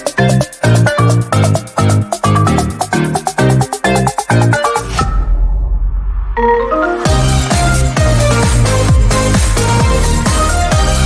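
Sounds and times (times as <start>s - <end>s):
electronic dance music: 0.0s - 5.4s, 6.4s - 11.0s.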